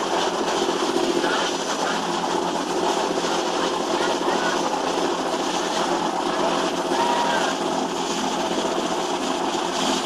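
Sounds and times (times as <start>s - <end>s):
boat diesel engines running: 0.0s - 10.0s
rush of churning wake: 0.0s - 10.0s.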